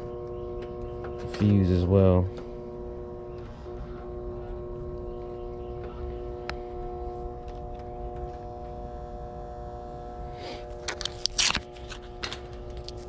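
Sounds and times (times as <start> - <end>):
hvac equipment humming: 0.0 - 13.0.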